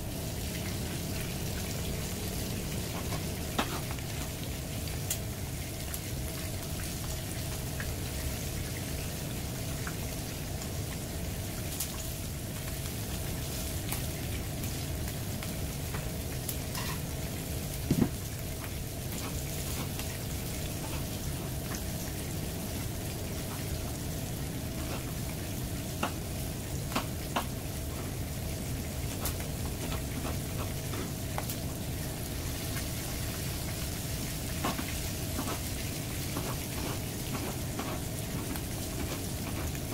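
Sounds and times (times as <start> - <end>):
fish sizzling in hot oil: 0.0 - 39.9
oil popping and crackling: 0.1 - 39.9.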